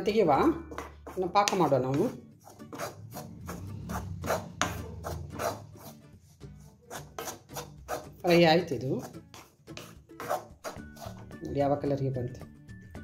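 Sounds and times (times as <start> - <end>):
wooden spatula scraping metal pan: 0.4 - 11.4.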